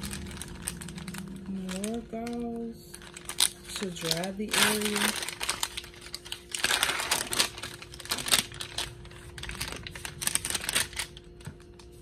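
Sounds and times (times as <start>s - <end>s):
paper wrapper crinkling: 0.0s - 12.0s.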